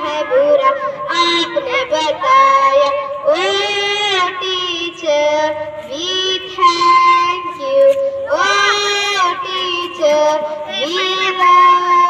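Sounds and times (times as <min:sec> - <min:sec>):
child singing high: 0:00.0 - 0:12.0.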